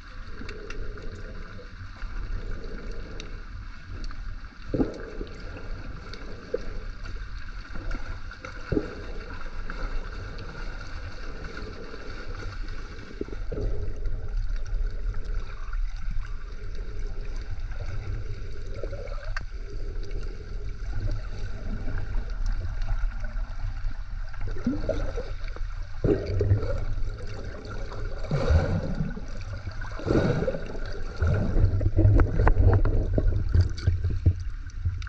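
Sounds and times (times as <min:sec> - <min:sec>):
muffled underwater rumble: 0:00.0 - 0:35.0
water gurgles and knocks: 0:00.0 - 0:35.0.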